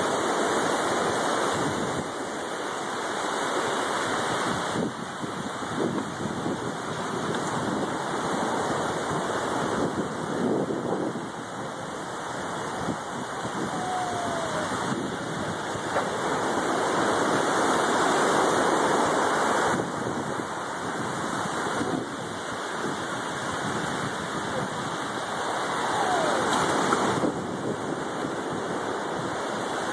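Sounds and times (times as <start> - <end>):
ocean surf washing up beach: 0.0 - 29.9.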